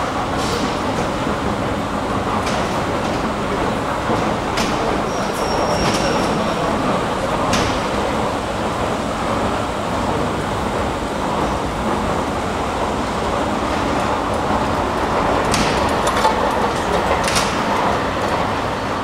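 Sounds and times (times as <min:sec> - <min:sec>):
railway station background noise: 0:00.0 - 0:19.0.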